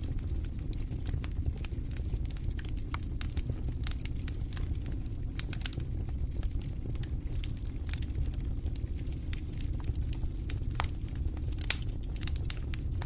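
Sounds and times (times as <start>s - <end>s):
fire crackling and popping: 0.0s - 13.0s
wood fire burning: 0.0s - 13.0s.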